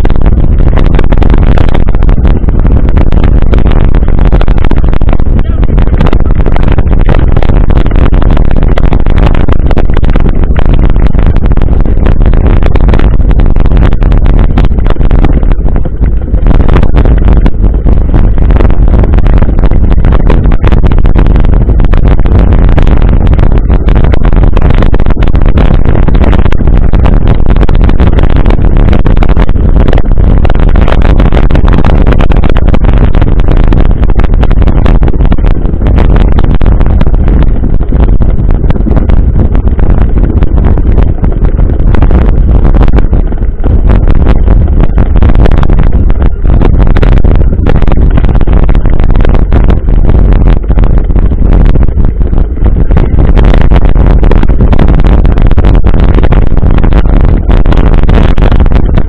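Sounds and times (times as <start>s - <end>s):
wind buffeting on microphone: 0.0s - 59.0s.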